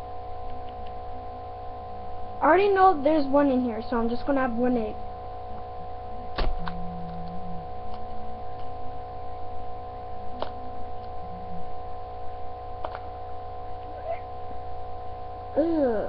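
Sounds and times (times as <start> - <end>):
multi-tone background hum: 0.0 - 16.0.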